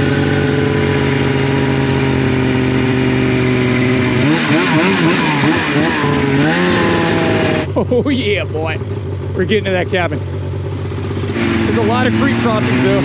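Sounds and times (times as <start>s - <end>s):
snowmobile engine revving: 0.0s - 8.8s, 9.4s - 10.2s, 10.8s - 13.0s.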